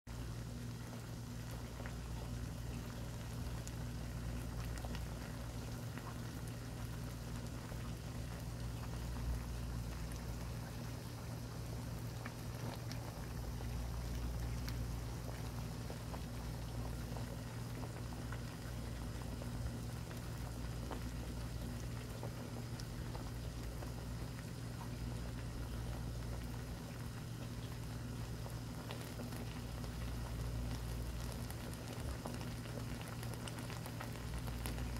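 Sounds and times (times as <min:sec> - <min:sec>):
low steady hum: 0:00.1 - 0:34.9
soup boiling with small pops: 0:00.1 - 0:34.9.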